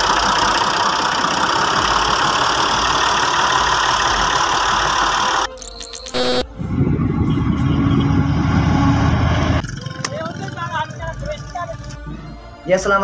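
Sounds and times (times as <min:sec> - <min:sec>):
tractor engine running: 0:00.0 - 0:12.6
steady tones: 0:00.0 - 0:12.8.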